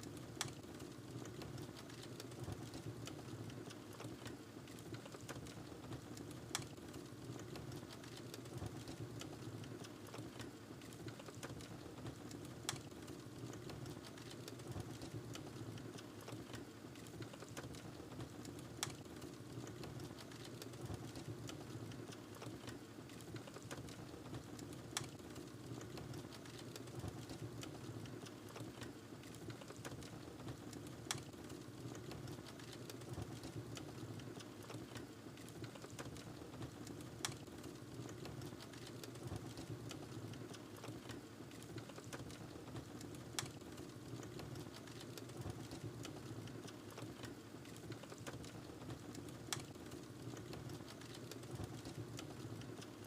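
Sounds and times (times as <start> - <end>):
wood fire crackling: 0.0 - 53.0
flames rumbling in fireplace: 0.2 - 46.7.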